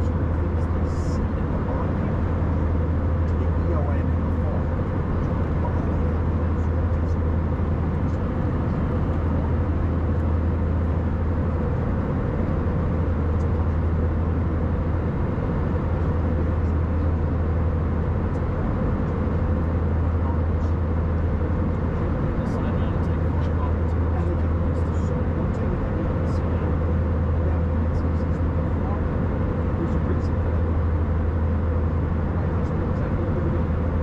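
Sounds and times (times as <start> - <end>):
airliner cabin engine drone: 0.0 - 34.0.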